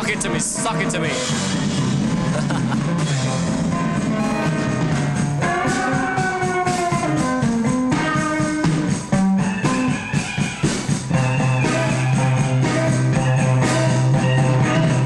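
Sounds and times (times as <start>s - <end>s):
electric guitar: 1.2s - 15.0s.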